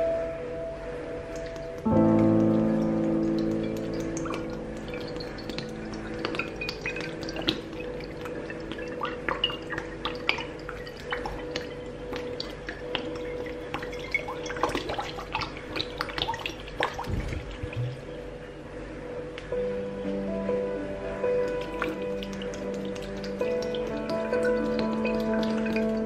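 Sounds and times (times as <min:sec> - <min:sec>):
faint steady hum: 0:00.0 - 0:26.0
water trickling and dripping: 0:01.3 - 0:18.2, 0:21.4 - 0:26.0.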